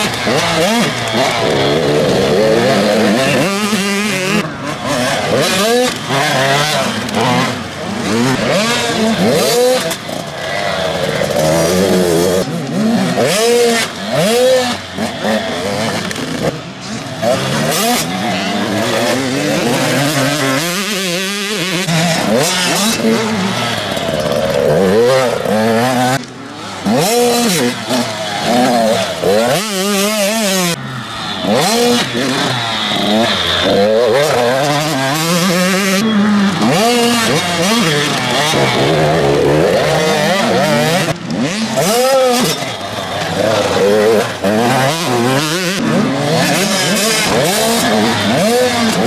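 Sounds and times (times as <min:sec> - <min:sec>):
motocross bikes revving: 0:00.0 - 0:49.0.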